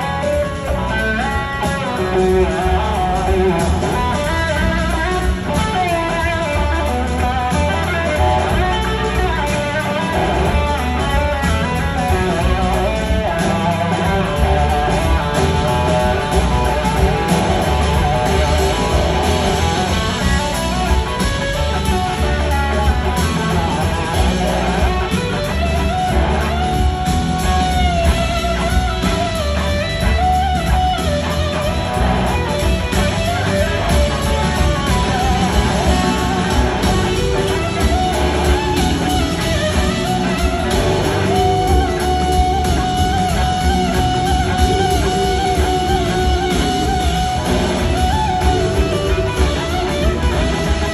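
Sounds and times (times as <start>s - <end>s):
bass and drums: 0.0s - 50.9s
electric guitar solo: 0.0s - 50.9s.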